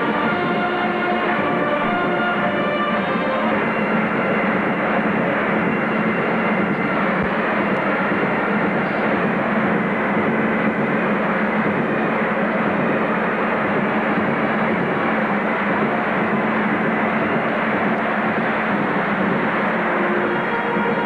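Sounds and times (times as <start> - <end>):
crowd talking in a hall: 0.0 - 21.0.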